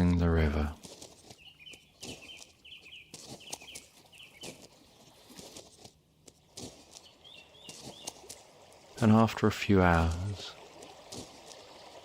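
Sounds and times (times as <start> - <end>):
birds chirping: 0.0 - 12.0
footsteps on a path: 0.4 - 8.9, 9.9 - 12.0.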